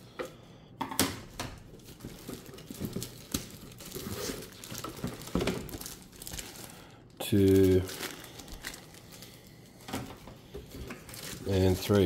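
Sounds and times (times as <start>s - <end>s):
plastic packaging crinkling: 1.6s - 12.0s.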